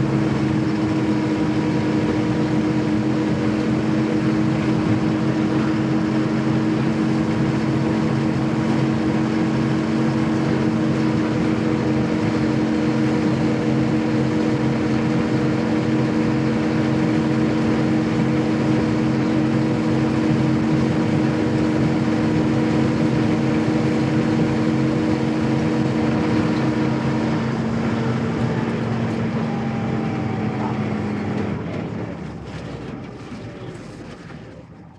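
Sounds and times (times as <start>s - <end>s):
truck engine droning: 0.0s - 34.9s.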